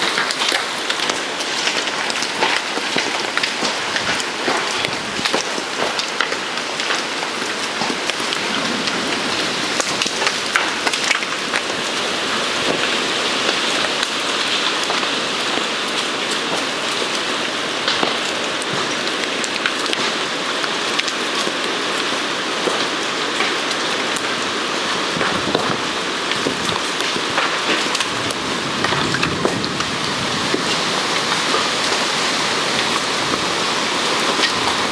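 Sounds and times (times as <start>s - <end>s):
hail and heavy rain falling: 0.0s - 34.9s
hailstones ticking: 0.0s - 34.9s.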